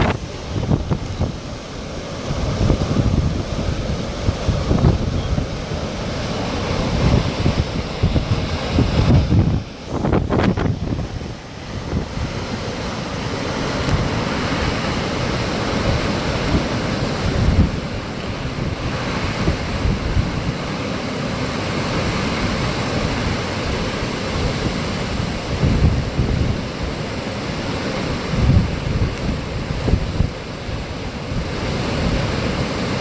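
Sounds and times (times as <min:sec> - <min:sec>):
storm wind rushing: 0:00.0 - 0:33.0
wind gusts buffeting microphone: 0:00.0 - 0:33.0.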